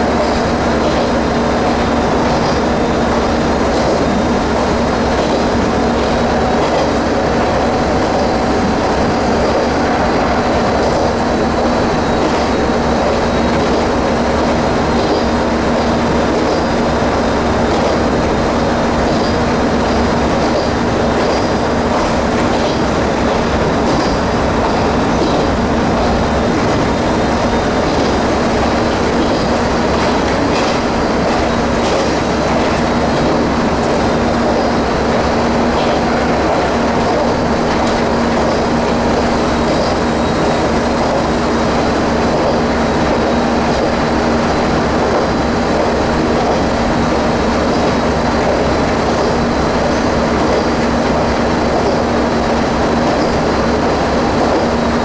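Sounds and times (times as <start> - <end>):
railcar engine drone: 0.0 - 55.0
wheels rumbling on rails: 0.0 - 55.0.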